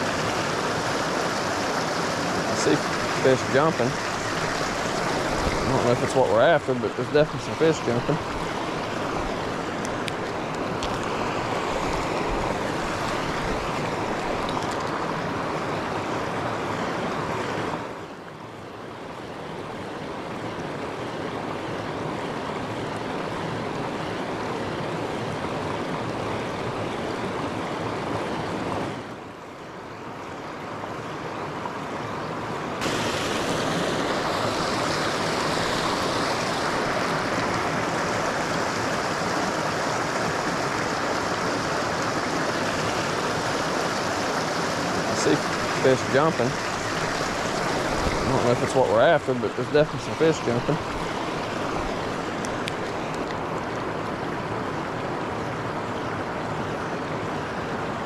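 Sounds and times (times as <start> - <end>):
river rapids rushing: 0.0 - 29.9, 30.5 - 58.0.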